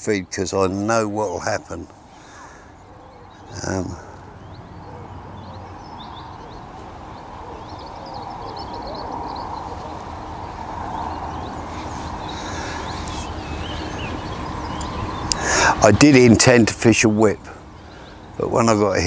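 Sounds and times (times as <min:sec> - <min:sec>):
outdoor background hiss: 0:00.0 - 0:19.0
small birds chirping: 0:00.0 - 0:19.0.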